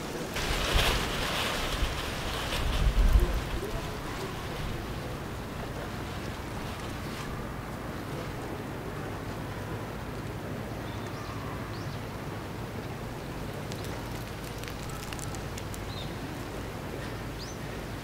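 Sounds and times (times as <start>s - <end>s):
outdoor rumble and hiss: 0.0s - 18.0s.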